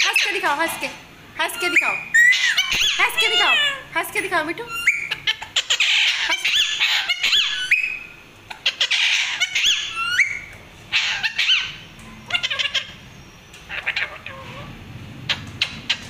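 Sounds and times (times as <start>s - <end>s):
parakeets squawking: 0.0s - 16.0s.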